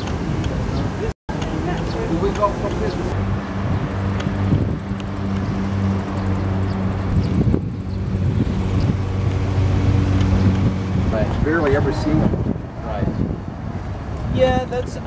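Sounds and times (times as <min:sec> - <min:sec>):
wind on microphone: 0:00.0 - 0:15.0
engine humming: 0:01.3 - 0:15.0.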